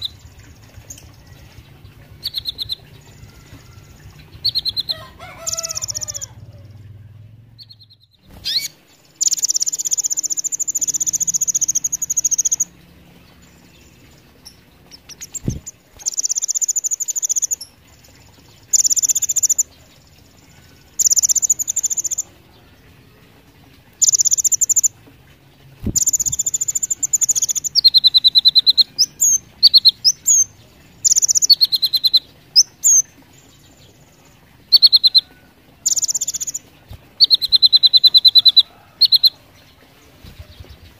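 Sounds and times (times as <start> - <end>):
sunbird singing rattling trills: 0.0 - 40.9.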